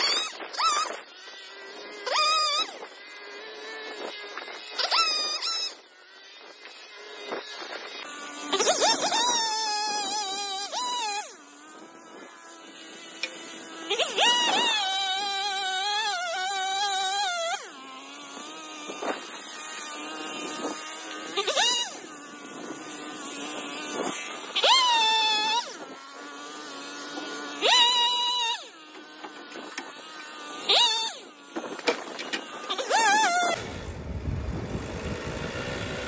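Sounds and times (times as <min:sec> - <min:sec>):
chainsaw revving and idling: 0:00.0 - 0:36.0.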